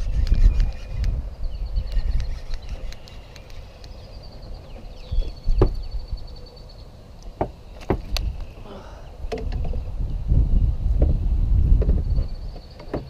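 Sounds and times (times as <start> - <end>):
wind rumble on microphone: 0.0 - 6.4, 7.9 - 13.0.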